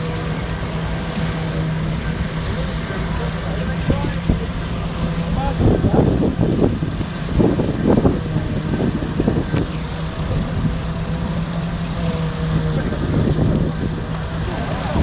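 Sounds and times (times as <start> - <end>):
engine idling: 0.0 - 15.0
indistinct voices: 0.0 - 15.0.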